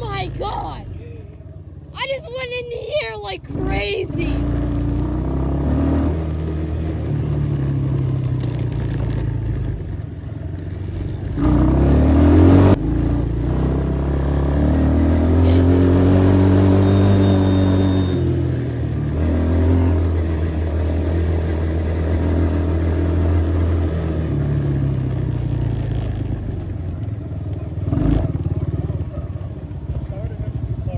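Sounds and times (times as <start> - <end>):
small off-road engines revving: 0.0 - 30.9.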